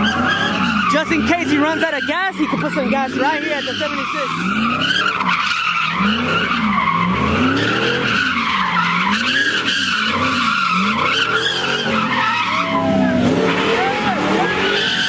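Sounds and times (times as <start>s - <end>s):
car engine revving: 0.0s - 15.0s
tyres squealing: 0.0s - 15.0s.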